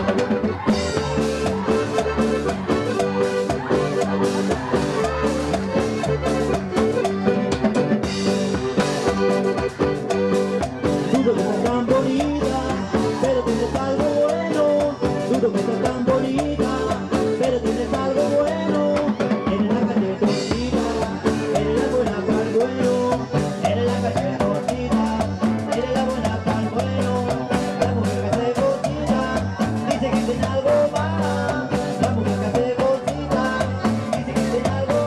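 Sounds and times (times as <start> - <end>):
button accordion: 0.0 - 35.0
drum kit beat: 0.0 - 35.0
electric bass: 0.0 - 35.0
guitar: 0.0 - 35.0.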